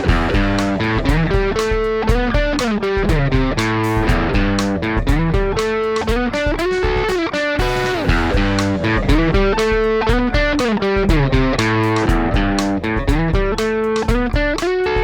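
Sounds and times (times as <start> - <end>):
electric guitar with string bends: 0.0 - 15.0.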